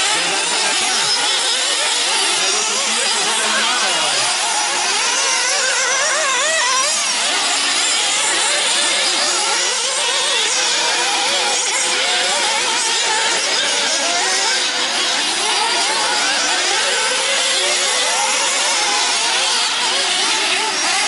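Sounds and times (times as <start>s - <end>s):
small engines whining: 0.0s - 21.0s.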